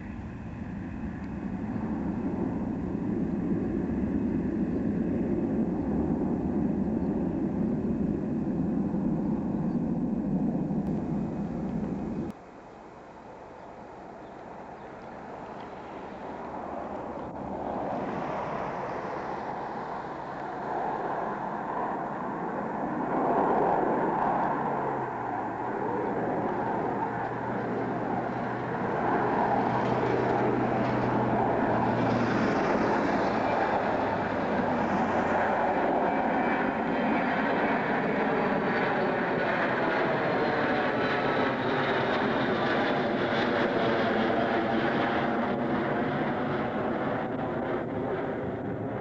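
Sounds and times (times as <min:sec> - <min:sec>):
jet aircraft climbing: 0:00.0 - 0:12.4, 0:14.4 - 0:49.0.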